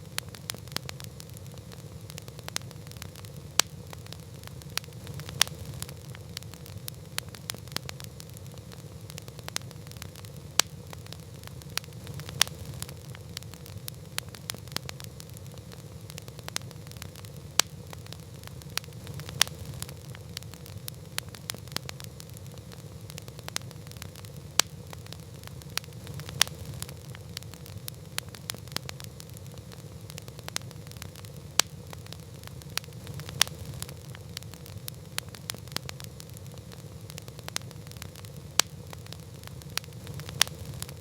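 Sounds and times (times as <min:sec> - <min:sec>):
campfire crackling: 0:00.0 - 0:41.0.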